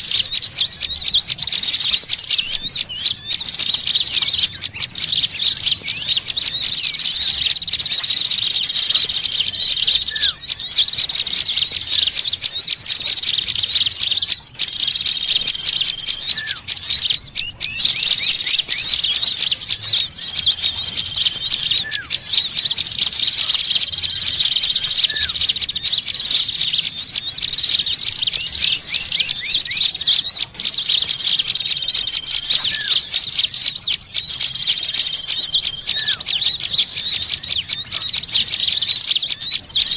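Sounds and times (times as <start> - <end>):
lower falling bird call: 0.0 - 39.9
songbirds chattering: 0.0 - 39.9.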